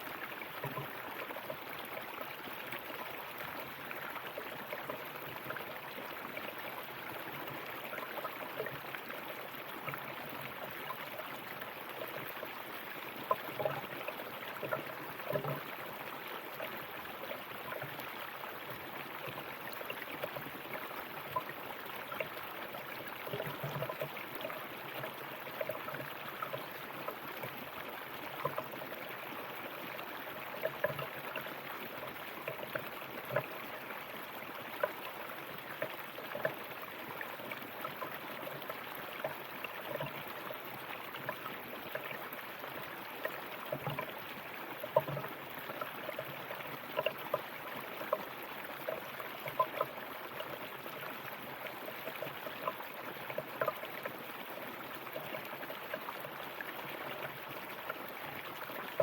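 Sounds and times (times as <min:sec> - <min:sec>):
river water over rocks: 0:00.0 - 0:59.0
small water splashes: 0:00.0 - 0:59.0.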